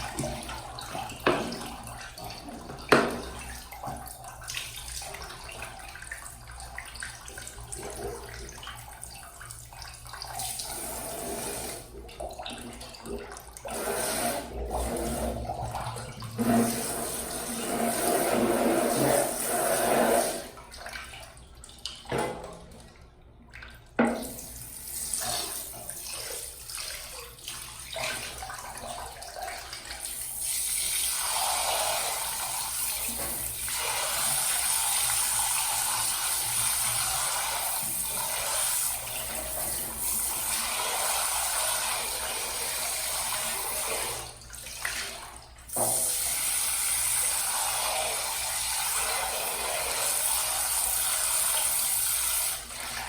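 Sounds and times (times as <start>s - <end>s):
tap water running into sink: 0.0s - 53.0s.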